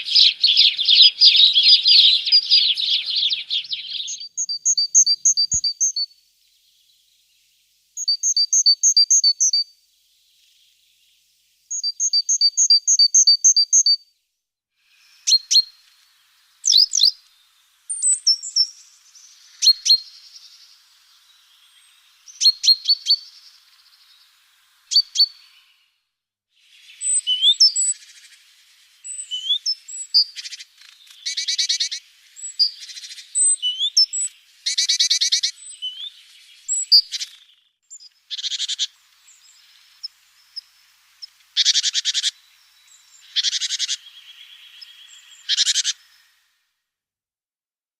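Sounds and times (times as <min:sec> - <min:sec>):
small birds chirping: 0:00.0 - 0:26.0, 0:26.6 - 0:46.6.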